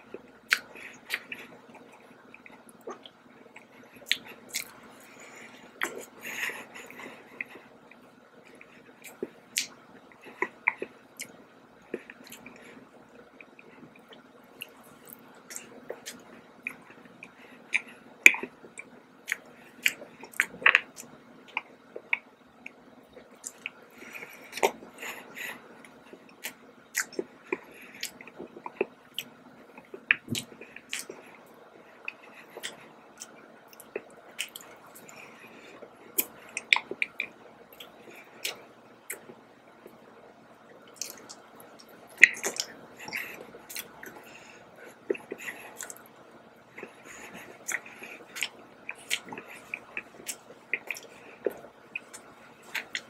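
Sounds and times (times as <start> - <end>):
person chewing with mouth clicks: 0.0 - 12.8, 13.4 - 40.0, 40.7 - 53.0.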